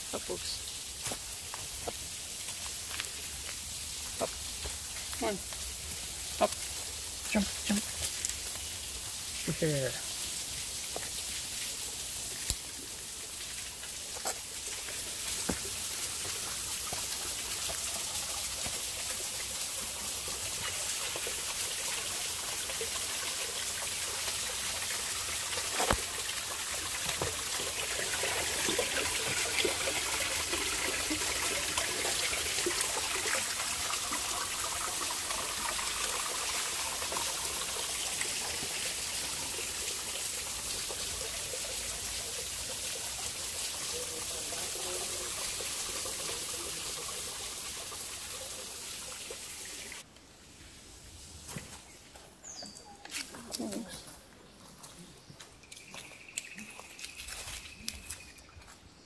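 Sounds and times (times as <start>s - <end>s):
small stream trickling: 0.0s - 50.7s, 51.5s - 59.0s.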